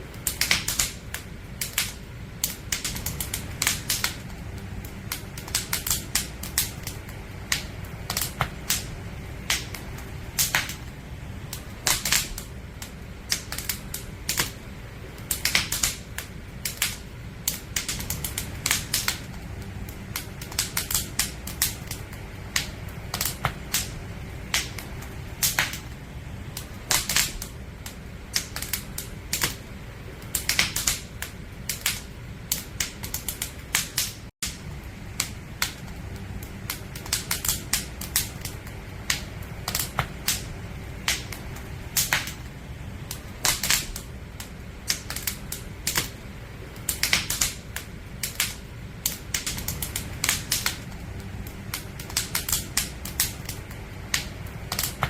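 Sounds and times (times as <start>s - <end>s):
campfire crackling and popping: 0.0s - 55.0s
low rumble of fire: 0.0s - 55.0s.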